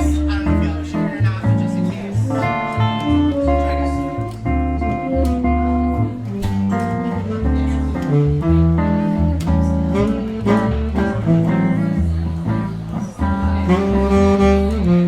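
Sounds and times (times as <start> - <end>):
slow guitar instrumental: 0.0 - 15.0.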